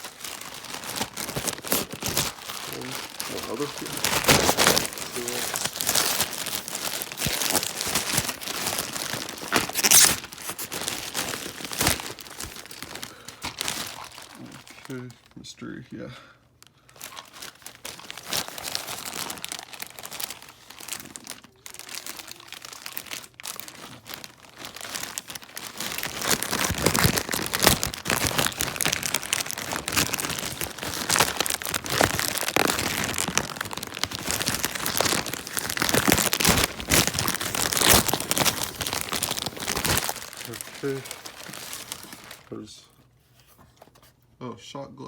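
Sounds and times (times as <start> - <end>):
packaging crinkling: 0.0 - 15.4, 16.6 - 42.6.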